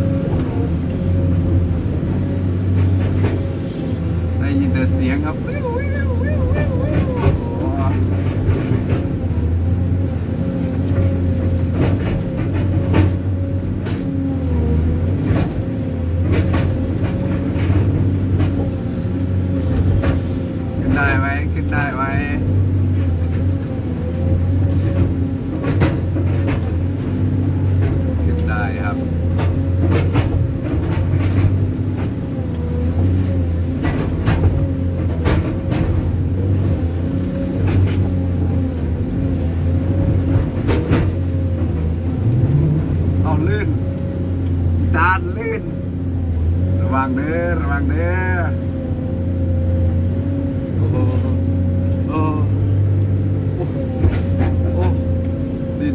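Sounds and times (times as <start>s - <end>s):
diesel engine straining under load: 0.0s - 55.9s.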